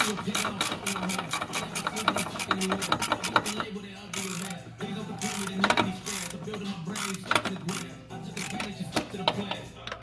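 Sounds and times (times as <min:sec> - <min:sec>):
socket ratchet clicking: 0:00.0 - 0:10.0.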